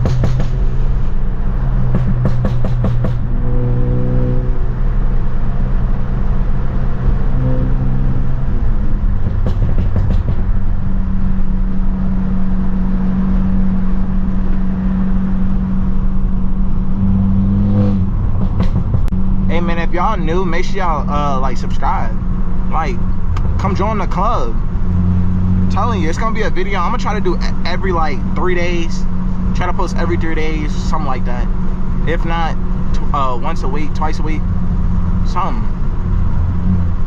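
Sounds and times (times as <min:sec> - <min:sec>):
car exhaust droning: 0:00.0 - 0:37.0
sharp exhaust cracks: 0:00.0 - 0:37.0.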